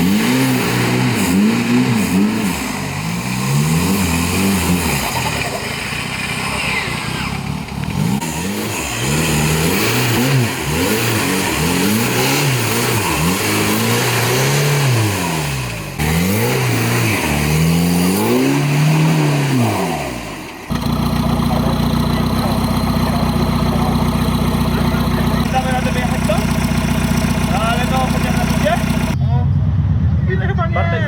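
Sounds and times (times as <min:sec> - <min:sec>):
engine revving: 0:00.0 - 0:30.7
engine running steadily: 0:00.0 - 0:30.7.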